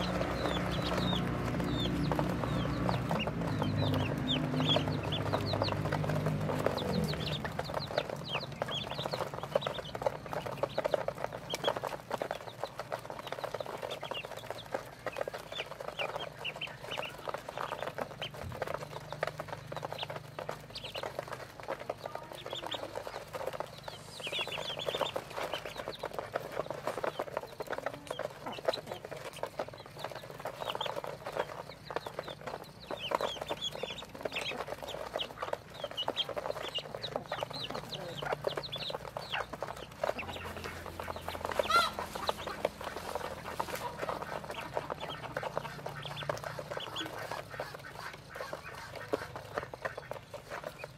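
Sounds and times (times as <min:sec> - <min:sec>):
bills pecking feed from tray: 0:00.0 - 0:50.9
ducklings peeping: 0:00.0 - 0:50.9.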